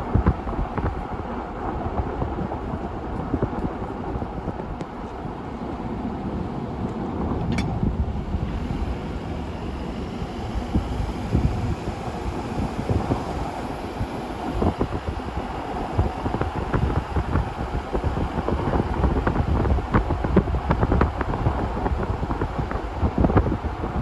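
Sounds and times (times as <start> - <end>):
low rumble: 0.0 - 24.0
wind buffeting microphone: 0.0 - 24.0.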